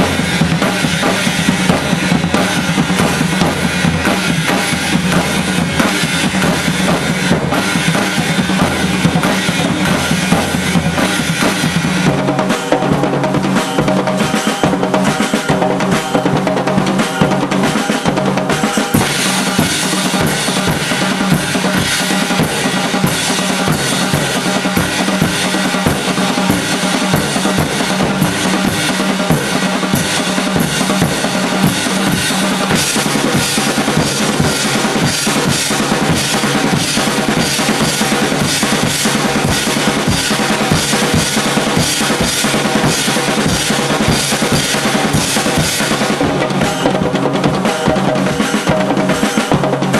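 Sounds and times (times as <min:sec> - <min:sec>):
drum kits and hand percussion: 0:00.0 - 0:49.9.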